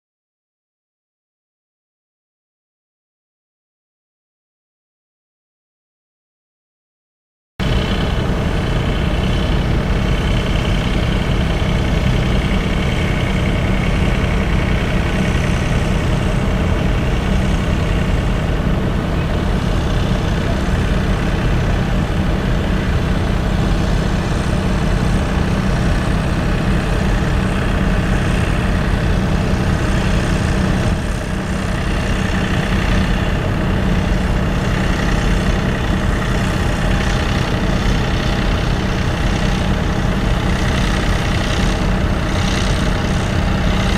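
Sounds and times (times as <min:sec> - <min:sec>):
diesel tractor engine running: 0:07.6 - 0:43.9.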